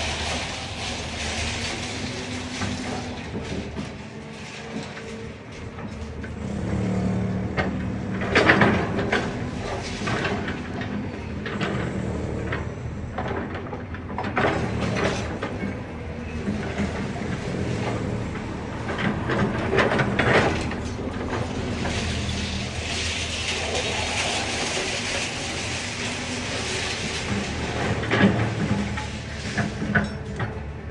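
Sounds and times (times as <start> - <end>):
debris crashing and clattering: 0.0 - 12.1, 14.2 - 30.9
excavator diesel engine running: 0.0 - 30.9.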